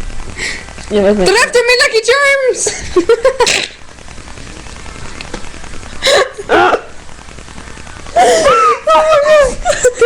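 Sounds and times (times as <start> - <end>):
steady low hiss: 0.0 - 10.0.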